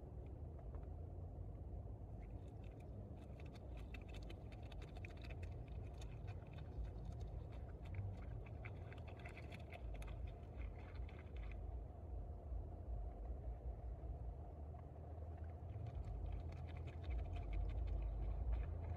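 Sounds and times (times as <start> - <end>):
low rumble: 0.0 - 18.9.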